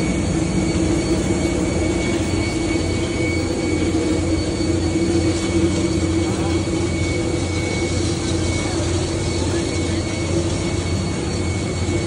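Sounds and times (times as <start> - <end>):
jet engine drone with whine: 0.0 - 12.0.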